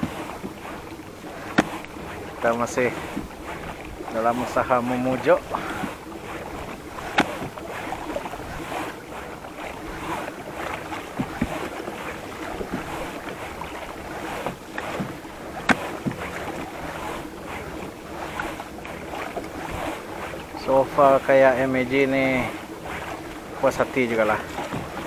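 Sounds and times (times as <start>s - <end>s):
small waves lapping against kayak: 0.0s - 25.0s.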